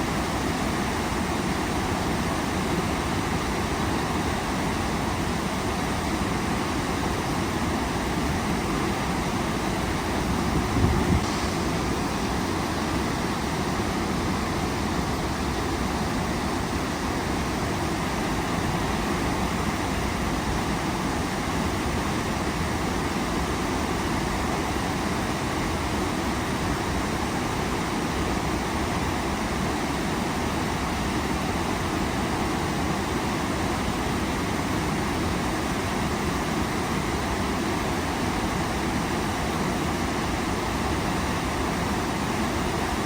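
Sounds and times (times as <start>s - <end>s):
waterfall: 0.0s - 43.0s.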